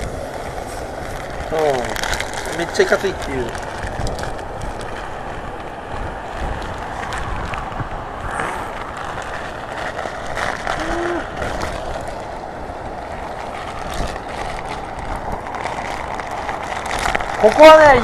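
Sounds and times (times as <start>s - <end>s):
wind and rain rushing: 0.0s - 18.0s.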